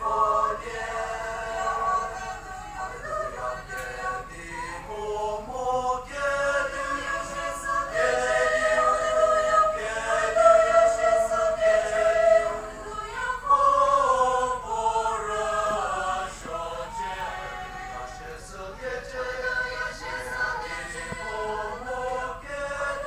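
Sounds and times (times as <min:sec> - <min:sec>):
choir singing sustained notes: 0:00.0 - 0:23.0.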